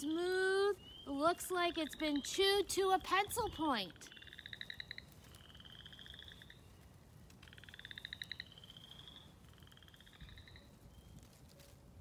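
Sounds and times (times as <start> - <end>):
frogs calling in pulsed trills: 0.0 - 11.2.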